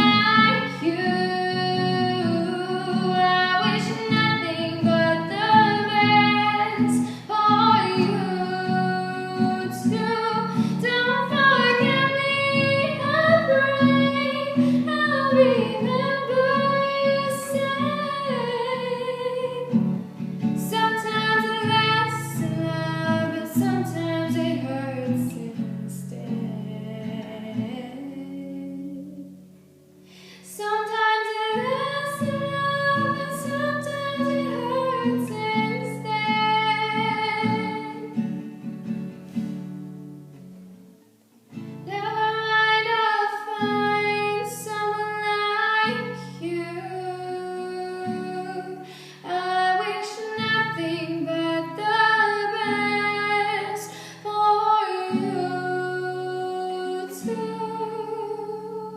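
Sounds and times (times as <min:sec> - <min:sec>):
woman singing a ballad: 0:00.0 - 0:29.5, 0:30.2 - 0:38.4, 0:41.8 - 0:58.9
acoustic guitar: 0:00.0 - 0:58.9.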